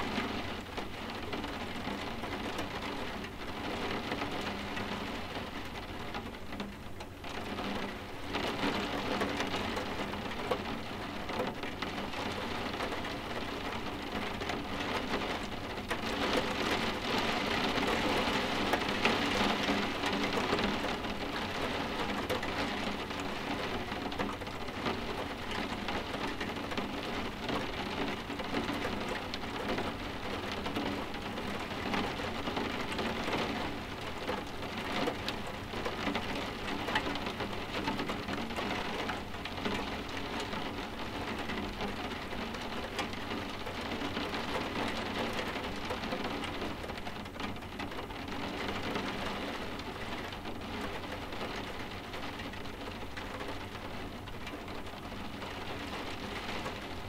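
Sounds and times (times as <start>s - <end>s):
rain tapping on window glass: 0.0s - 57.0s.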